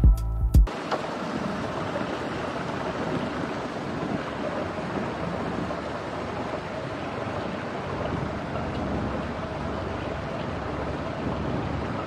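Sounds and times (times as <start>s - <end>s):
water rushing: 0.7s - 12.0s.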